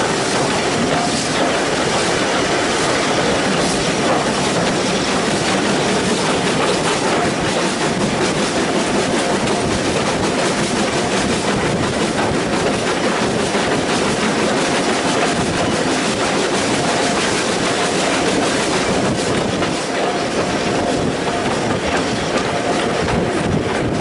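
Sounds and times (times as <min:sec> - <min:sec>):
clickety-clack of rail joints: 0:00.0 - 0:24.0
train wheels rumbling on track: 0:00.0 - 0:24.0.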